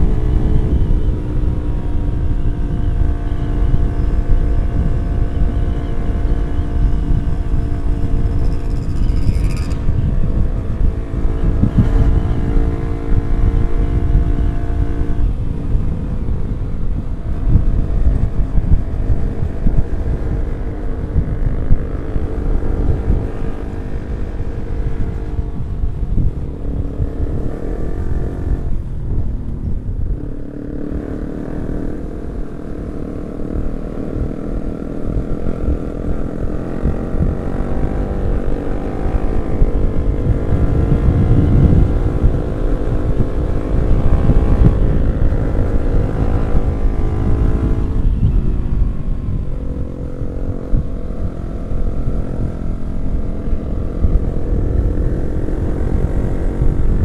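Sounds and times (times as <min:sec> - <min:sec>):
heavy low rumble: 0:00.0 - 0:57.0
motorcycle engine running: 0:00.0 - 0:57.0.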